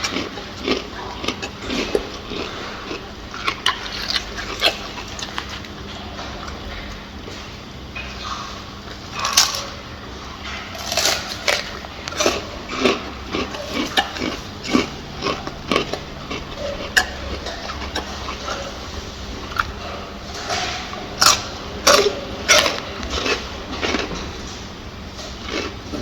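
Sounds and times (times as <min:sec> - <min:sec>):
gorilla chewing and crunching: 0:00.0 - 0:26.0.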